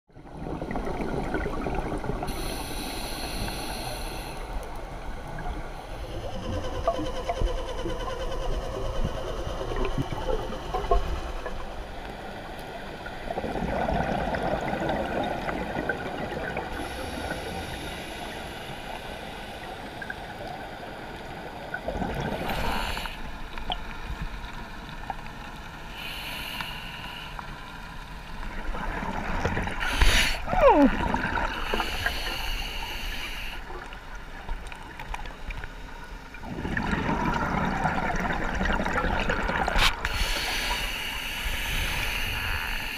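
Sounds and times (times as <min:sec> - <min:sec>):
regulator bubbles gurgling underwater: 0:00.1 - 0:19.0, 0:19.6 - 0:25.8, 0:28.3 - 0:32.4, 0:33.4 - 0:40.9.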